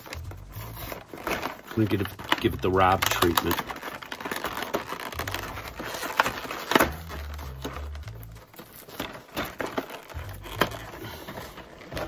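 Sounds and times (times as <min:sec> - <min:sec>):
plastic packaging crackling: 0:00.0 - 0:12.0
dull knocks of package handling: 0:01.1 - 0:12.0.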